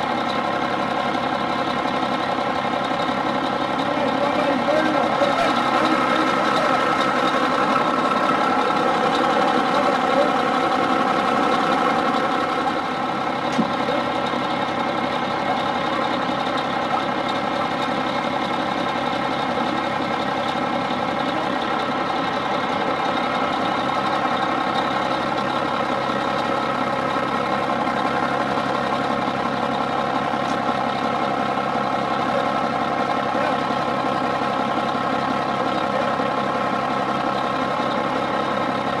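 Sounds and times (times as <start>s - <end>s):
engine idling hum: 0.0s - 39.0s.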